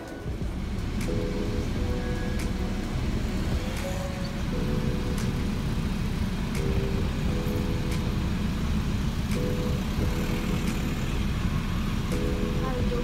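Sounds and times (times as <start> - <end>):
car engine and tyres rumbling: 0.0 - 13.0
music with sustained chords: 0.0 - 13.0.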